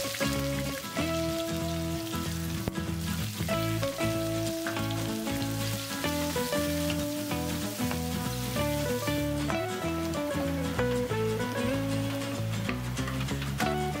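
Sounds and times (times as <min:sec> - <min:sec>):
background music: 0:00.0 - 0:14.0
onions sizzling in oil: 0:00.0 - 0:14.0.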